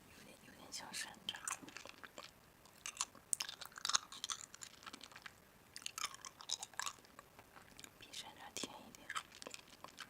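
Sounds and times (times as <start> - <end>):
chewing crunchy food: 1.3 - 10.0.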